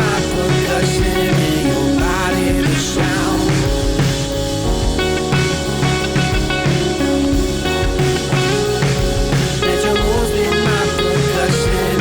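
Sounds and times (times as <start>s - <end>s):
pop-rock music with guitar and drums: 0.0s - 12.0s.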